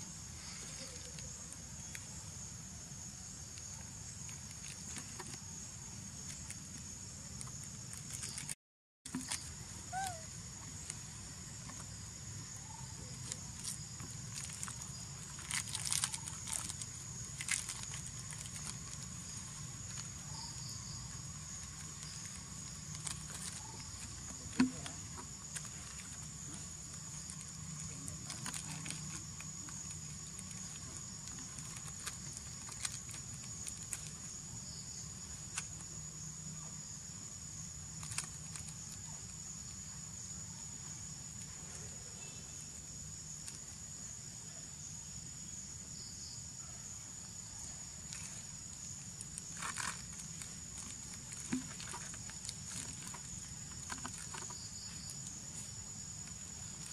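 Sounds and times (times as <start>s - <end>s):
insects droning: 0.0s - 56.9s.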